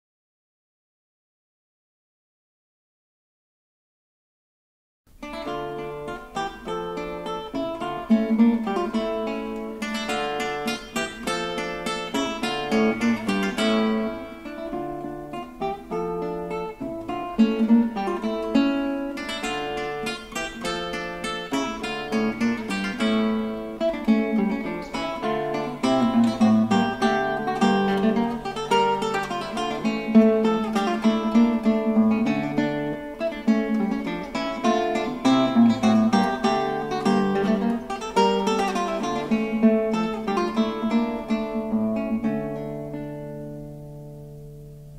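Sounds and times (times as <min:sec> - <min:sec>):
acoustic guitar music: 0:05.1 - 0:44.9.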